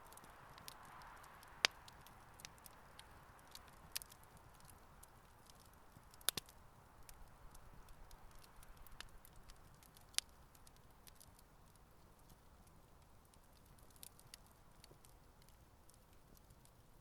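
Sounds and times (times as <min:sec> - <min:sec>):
campfire flames hissing: 0:00.0 - 0:17.0
wood popping in fire: 0:00.0 - 0:17.0.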